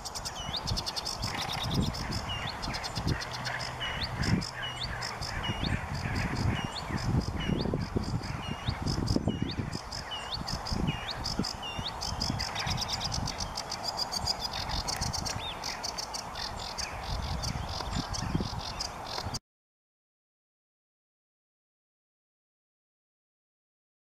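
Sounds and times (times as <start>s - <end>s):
warbler singing scratchy chatter: 0.0s - 19.4s.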